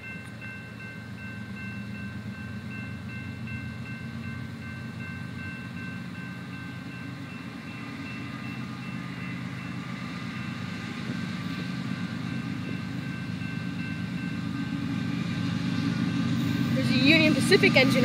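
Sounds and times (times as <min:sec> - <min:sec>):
crossing warning bell ringing: 0:00.0 - 0:18.0
diesel locomotive drone: 0:00.0 - 0:18.0.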